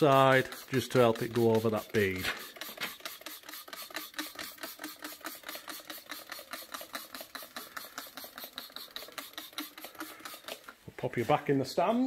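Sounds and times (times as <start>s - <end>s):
small machine clattering: 0.0s - 10.8s.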